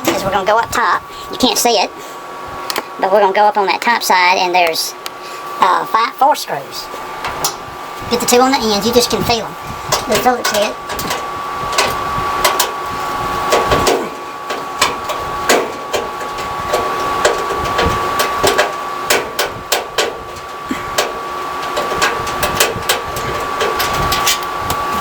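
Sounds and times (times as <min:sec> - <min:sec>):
thin high hum: 0:00.0 - 0:25.0.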